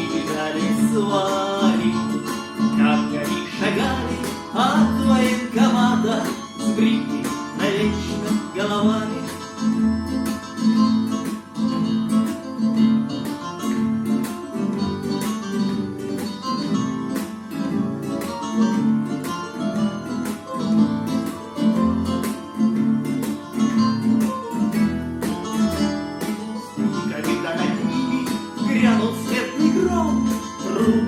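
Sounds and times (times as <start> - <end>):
bass line: 0.0 - 31.0
strummed acoustic guitar: 0.0 - 31.0.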